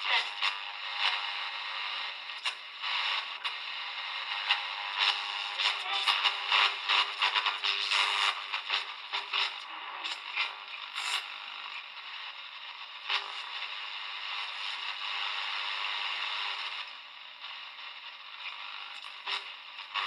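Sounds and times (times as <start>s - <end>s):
radio crackles: 0.0s - 20.0s
radio static hissing: 0.0s - 20.0s.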